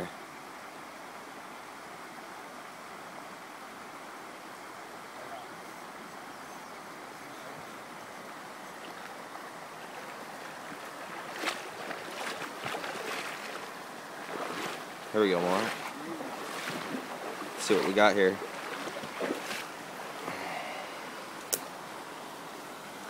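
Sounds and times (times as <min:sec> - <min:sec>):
stream flowing over rocks: 0:00.1 - 0:23.0.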